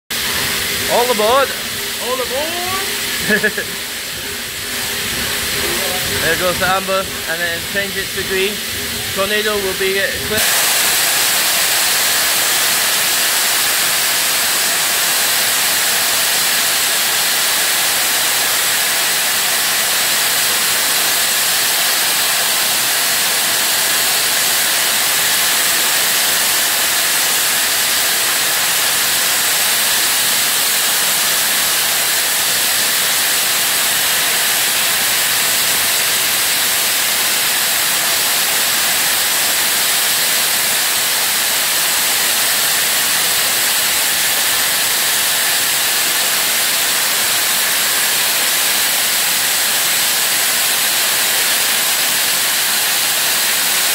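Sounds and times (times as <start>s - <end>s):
steam hissing from locomotive: 0.1s - 53.9s.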